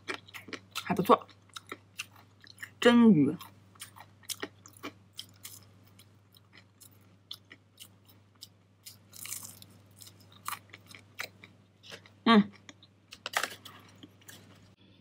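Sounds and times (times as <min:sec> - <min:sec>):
chewing crisp fried fish: 0:00.0 - 0:14.8.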